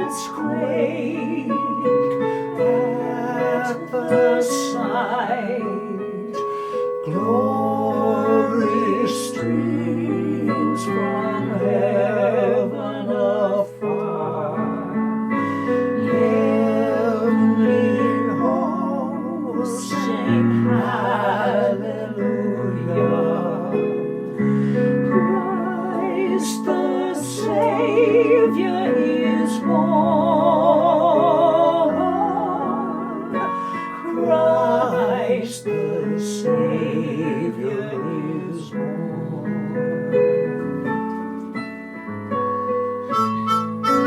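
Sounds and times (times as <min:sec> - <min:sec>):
solo voice singing carol: 0:00.0 - 0:40.7
gentle instrumental accompaniment: 0:00.0 - 0:44.0.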